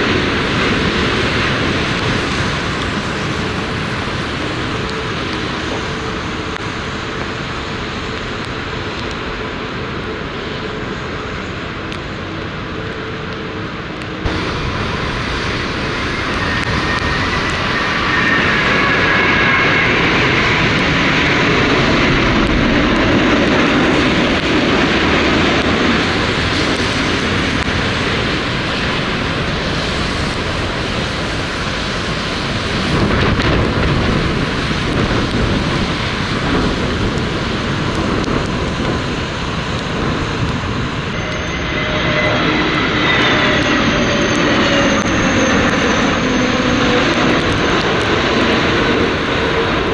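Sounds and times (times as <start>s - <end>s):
high engine whine: 0.0s - 49.9s
jet engine rush: 0.0s - 49.9s.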